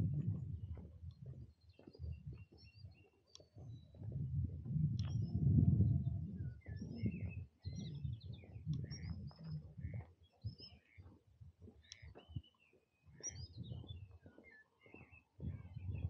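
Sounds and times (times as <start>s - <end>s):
songbirds chirping and singing: 0.1s - 16.0s.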